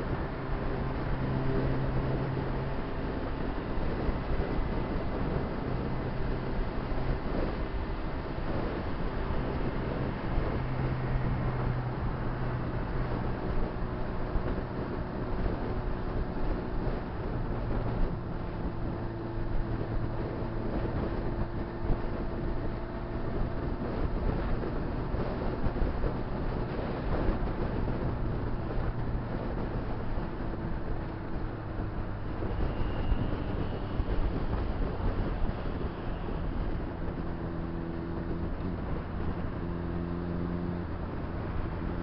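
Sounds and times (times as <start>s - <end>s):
motorcycle engine cruising: 0.0s - 42.0s
road noise: 0.0s - 42.0s
wind noise: 0.0s - 42.0s.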